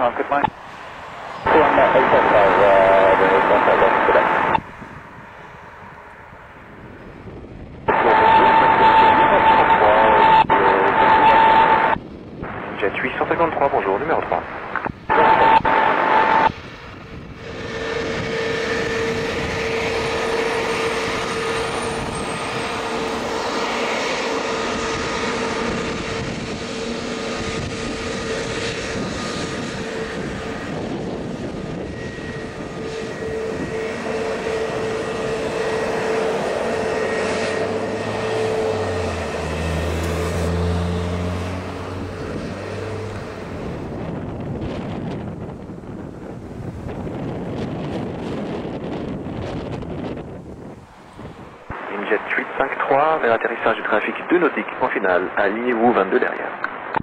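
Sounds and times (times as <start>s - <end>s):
low hum: 0.0s - 55.4s
jet engine whine: 0.0s - 57.0s.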